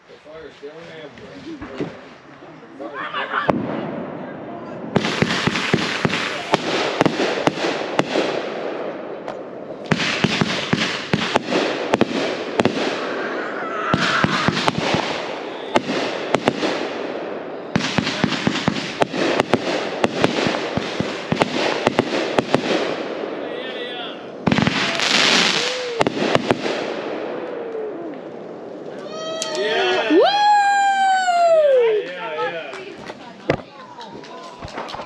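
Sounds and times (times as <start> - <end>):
fireworks crackling and popping: 4.8 - 35.0.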